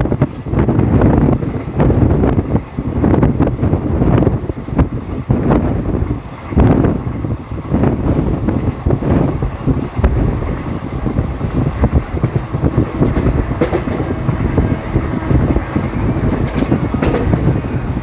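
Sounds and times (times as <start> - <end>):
train clattering and knocking: 0.0 - 18.0
train wheels rumbling on track: 0.0 - 18.0.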